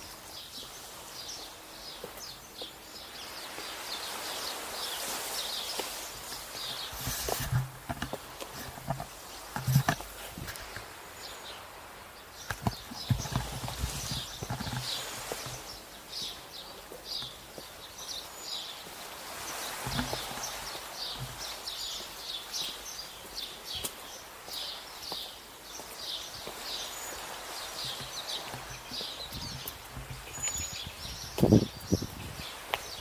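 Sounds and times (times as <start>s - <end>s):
footsteps on a hard path: 0.6s - 11.0s, 12.4s - 33.0s.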